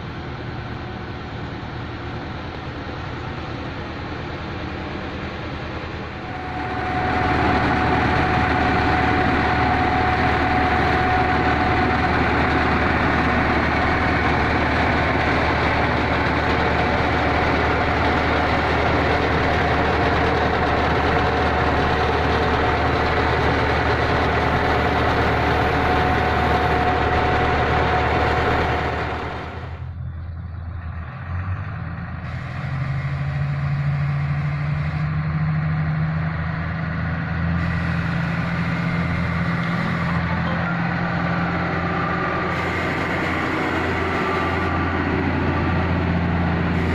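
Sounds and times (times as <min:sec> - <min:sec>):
thin steady whine: 0:00.0 - 0:30.4, 0:37.5 - 0:46.9
heavy diesel machinery running: 0:00.0 - 0:46.9
low engine hum: 0:00.0 - 0:46.9.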